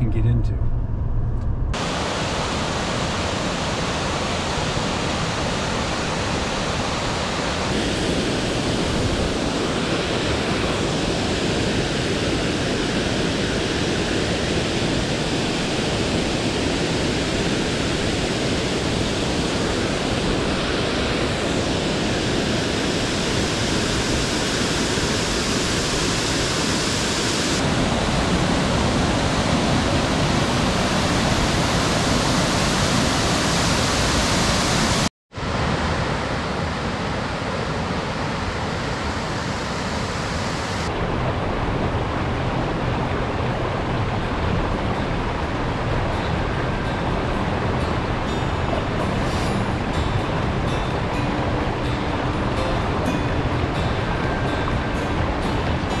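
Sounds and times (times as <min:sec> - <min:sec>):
waterfall rushing into pool: 0:01.8 - 0:56.0.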